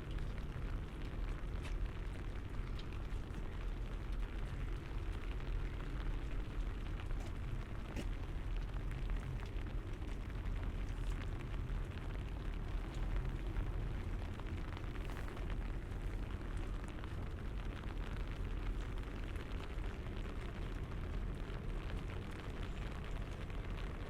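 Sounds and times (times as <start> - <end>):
low rumble: 0.0 - 24.0
rain ticking on an umbrella: 0.0 - 24.0.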